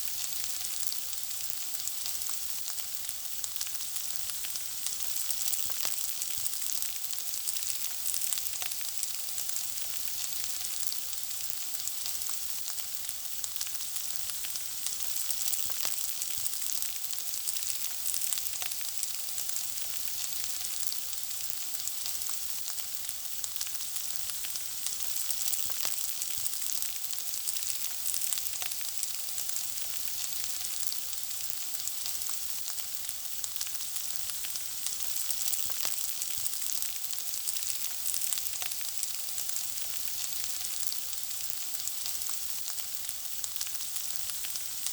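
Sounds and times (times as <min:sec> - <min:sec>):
food sizzling and popping: 0:00.0 - 0:44.9.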